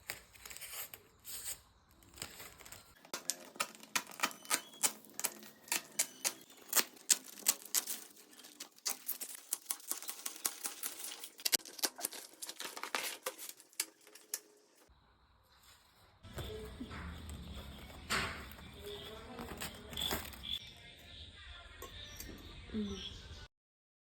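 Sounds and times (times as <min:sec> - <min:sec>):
plaiting dry plant strips: 0:00.0 - 0:22.4.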